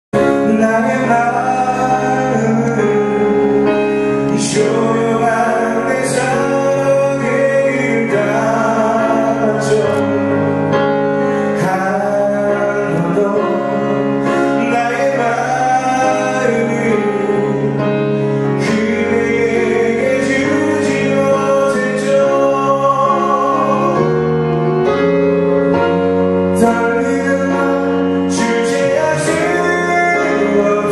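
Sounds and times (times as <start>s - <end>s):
keyboard and band accompaniment: 0.1s - 30.9s
man singing amplified ballad: 0.2s - 10.6s, 11.3s - 30.9s.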